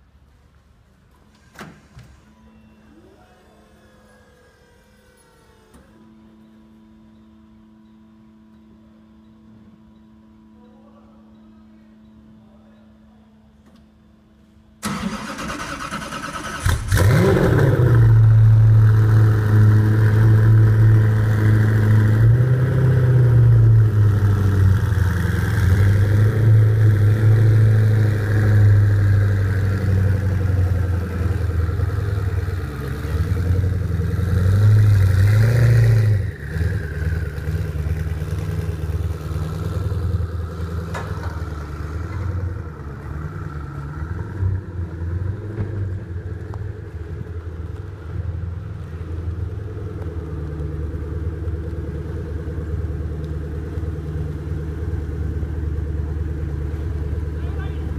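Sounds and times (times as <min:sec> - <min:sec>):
car engine starting and idling: 0:00.0 - 0:09.5, 0:14.7 - 0:57.9.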